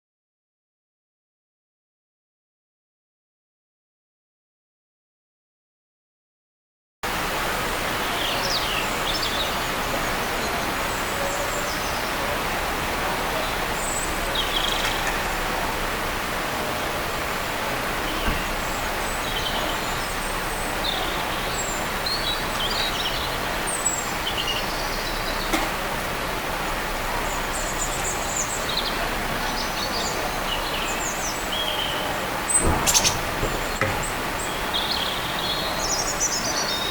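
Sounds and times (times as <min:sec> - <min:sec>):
outdoor background hiss: 0:07.0 - 0:36.9
songbirds calling: 0:07.2 - 0:36.9.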